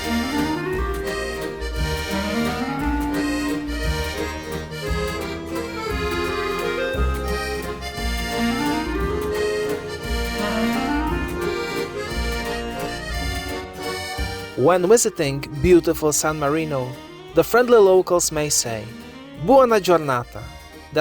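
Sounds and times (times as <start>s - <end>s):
accordion music: 0.0s - 21.0s
regular bass pulse: 0.0s - 21.0s.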